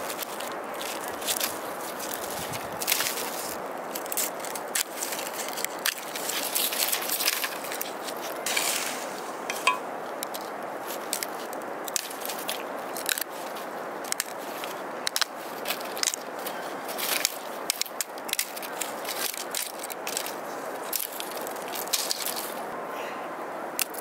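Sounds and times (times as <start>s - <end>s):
steady hiss: 0.0s - 24.0s
bamboo strips clicking: 0.1s - 8.4s, 9.5s - 22.6s, 23.8s - 24.0s.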